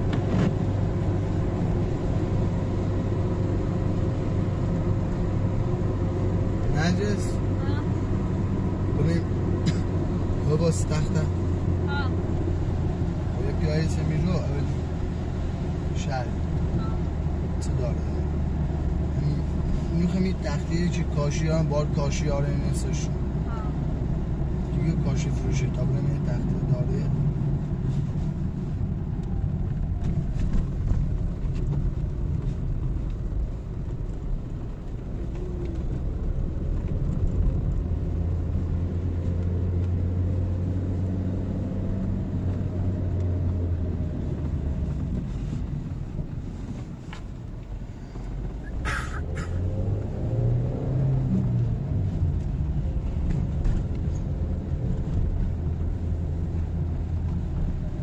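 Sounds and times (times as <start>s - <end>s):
car engine rumble: 0.0s - 58.0s.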